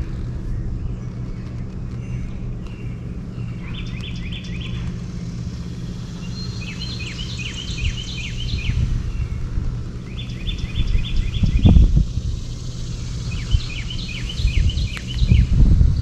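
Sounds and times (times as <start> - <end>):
songbird chirping: 0.0 - 15.6
steady low hum: 0.0 - 16.0.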